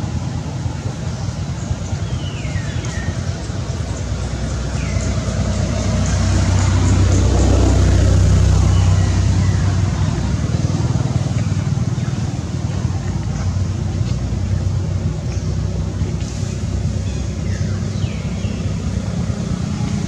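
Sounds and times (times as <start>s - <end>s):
vehicle engine rumbling past: 0.0s - 20.0s.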